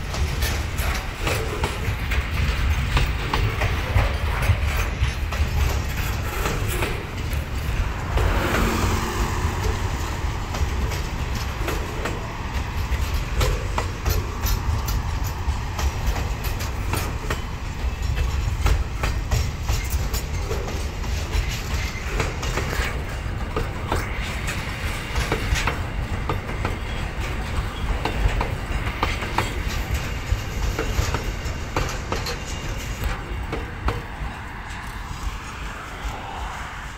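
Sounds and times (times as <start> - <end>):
wheels clacking over rail joints: 0.0 - 36.5
freight train rumbling: 0.0 - 36.9.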